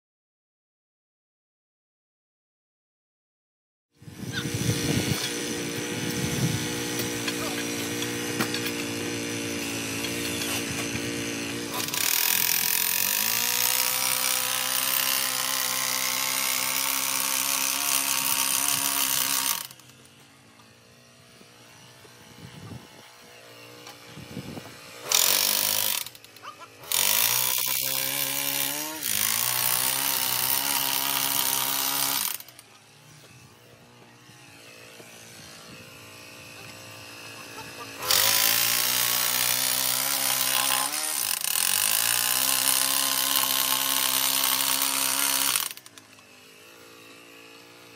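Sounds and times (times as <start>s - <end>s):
power tool motor spinning: 4.0s - 47.9s.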